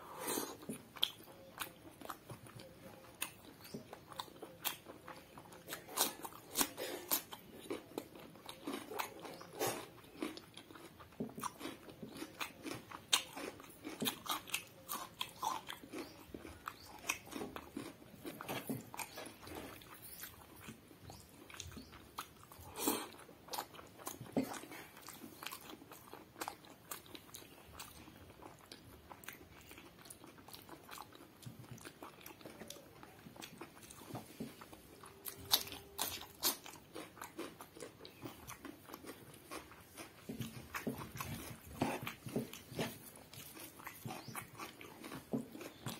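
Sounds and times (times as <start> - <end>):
chewing rice: 0.0 - 45.9
cucumber crunching: 0.4 - 45.9.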